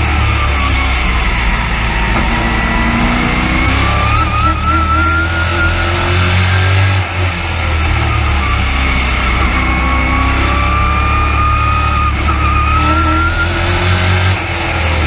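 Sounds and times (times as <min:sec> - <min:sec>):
high engine whine: 0:00.0 - 0:15.0
race truck engine running hard: 0:00.0 - 0:15.0.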